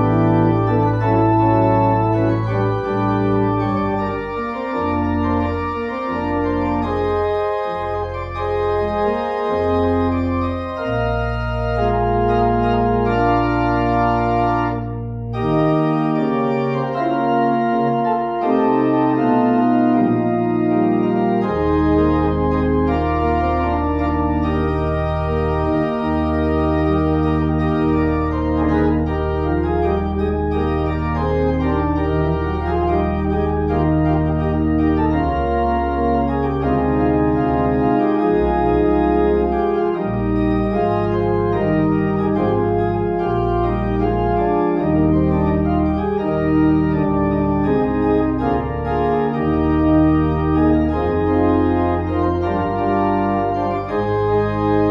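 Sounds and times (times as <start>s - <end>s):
church organ chords: 0.0s - 54.9s.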